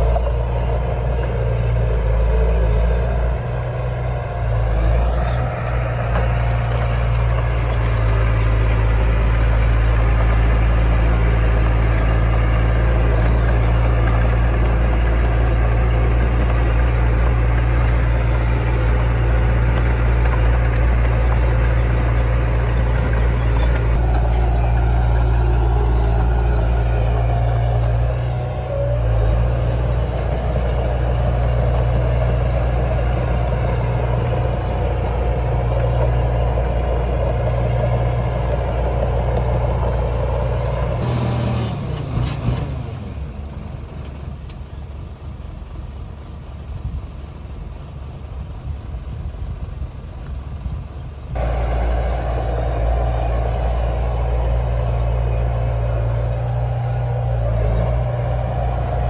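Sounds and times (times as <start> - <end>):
heavy diesel engine running: 0.0 - 59.0
rough engine rumble with falling whine: 0.0 - 59.0.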